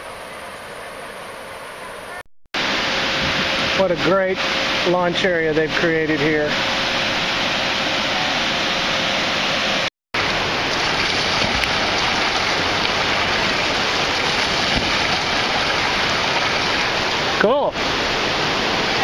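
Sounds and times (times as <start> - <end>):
river water rushing over falls: 0.0 - 19.0.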